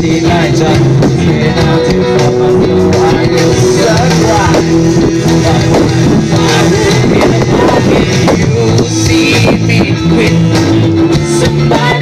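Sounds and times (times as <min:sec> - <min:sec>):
live rock band: 0:00.0 - 0:12.0
person singing: 0:00.0 - 0:12.0.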